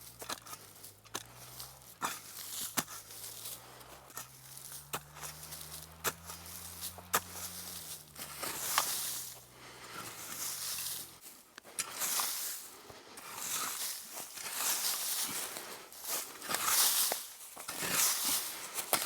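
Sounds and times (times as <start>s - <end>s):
dry leaves rustling: 0.0s - 19.0s.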